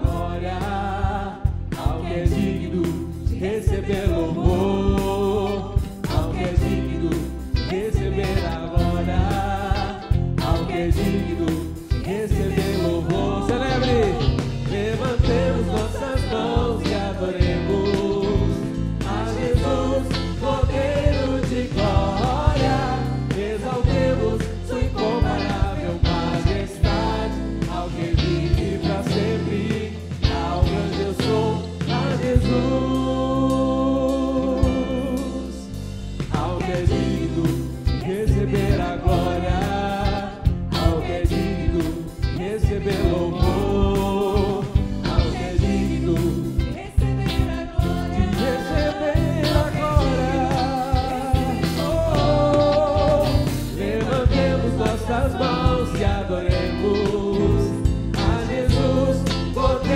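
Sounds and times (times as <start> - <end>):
woman singing lead: 0.0 - 35.7, 36.3 - 59.9
backing singers: 0.0 - 59.9
live band playing: 0.0 - 59.9.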